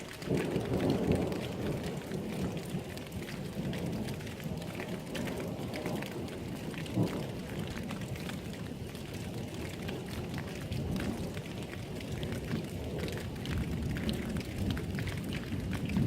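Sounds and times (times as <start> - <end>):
patter of raindrops: 0.0 - 16.0
thunder rumbling: 0.2 - 16.0.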